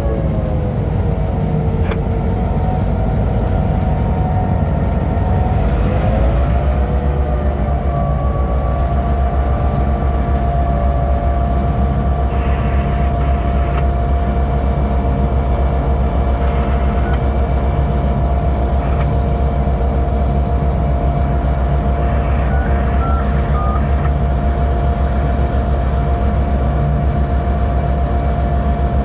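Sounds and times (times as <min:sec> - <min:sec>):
diesel locomotive engine rumble: 0:00.0 - 0:29.0
thin steady whine: 0:01.8 - 0:29.0.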